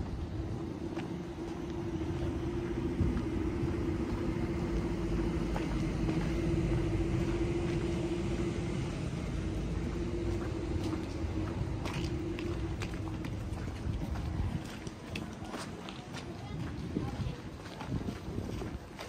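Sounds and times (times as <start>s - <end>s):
city street traffic rumble: 0.0s - 19.0s
steady hum: 0.0s - 19.0s.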